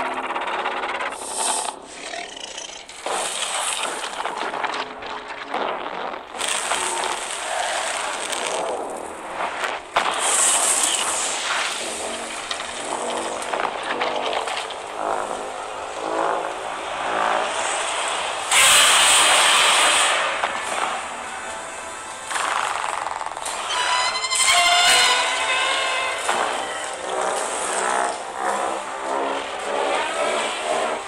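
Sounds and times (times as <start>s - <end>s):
fire rushing: 0.0s - 29.7s.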